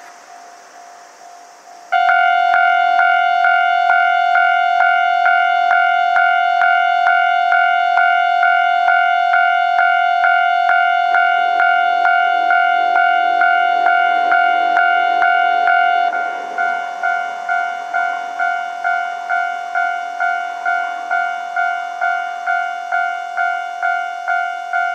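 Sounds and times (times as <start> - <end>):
low train hum: 0.0 - 24.9
level crossing bell dinging: 2.0 - 24.9.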